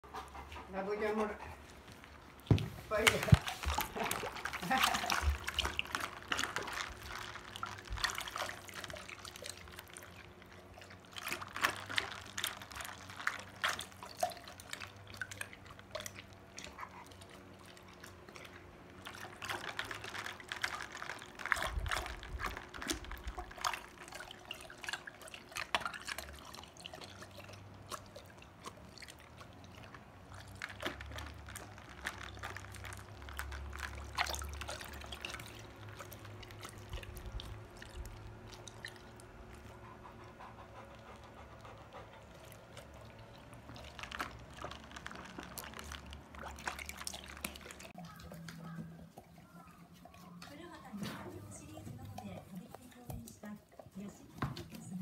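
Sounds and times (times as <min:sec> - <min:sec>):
dog lapping water: 0:00.0 - 0:55.0.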